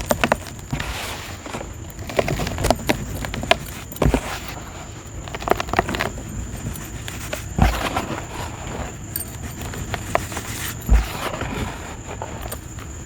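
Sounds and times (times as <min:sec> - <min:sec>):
dirt crumbling with gritty crackles: 0:00.0 - 0:13.0
small knocks: 0:00.0 - 0:13.0.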